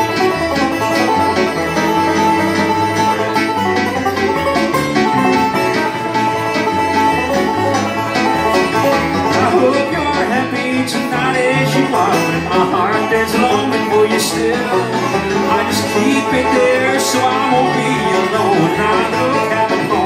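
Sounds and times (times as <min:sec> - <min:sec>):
banjo picking: 0:00.0 - 0:20.0
stage piano chords: 0:00.0 - 0:20.0.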